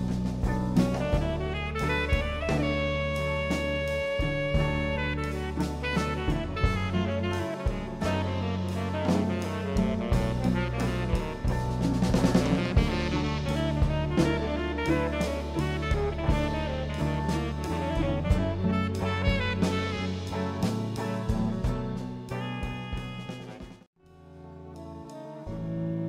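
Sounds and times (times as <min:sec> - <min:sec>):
drum kit: 0:00.0 - 0:26.0
jazz ensemble playing: 0:00.0 - 0:26.0.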